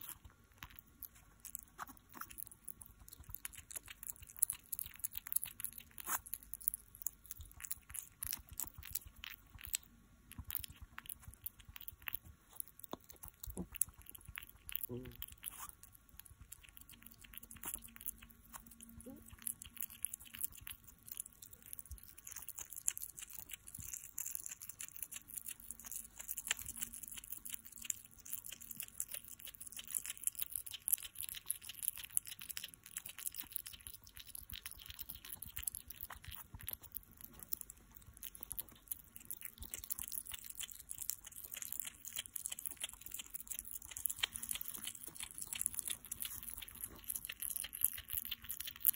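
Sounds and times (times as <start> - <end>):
hedgehog chewing: 0.0 - 48.9.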